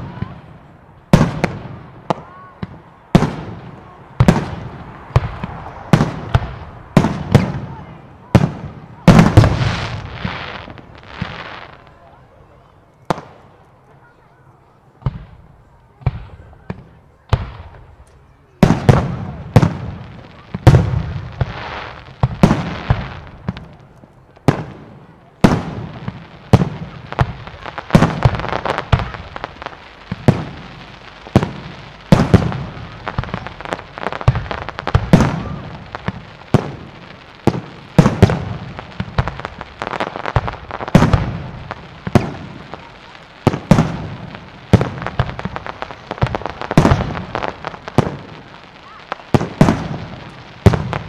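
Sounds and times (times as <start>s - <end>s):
fireworks bursting: 0.0s - 14.2s, 14.9s - 51.0s.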